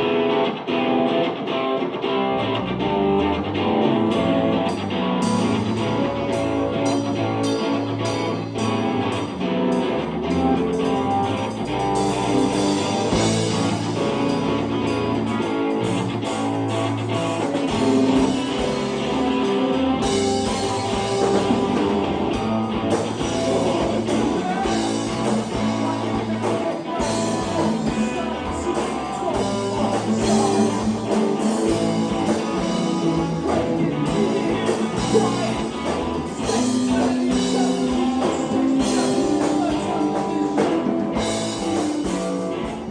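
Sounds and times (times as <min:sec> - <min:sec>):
live band playing rock music: 0:00.0 - 0:42.9.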